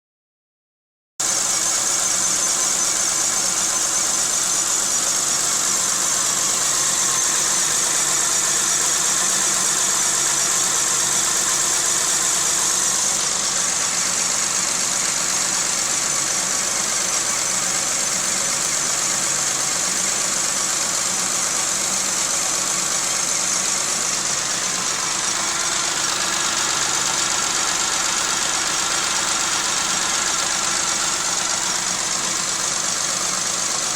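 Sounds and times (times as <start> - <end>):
car engine idling roughly: 1.2 - 33.9.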